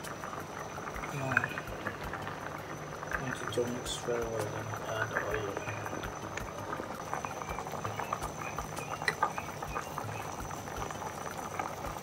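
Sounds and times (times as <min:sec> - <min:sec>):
pot boiling with bubbles popping: 0:00.0 - 0:12.0.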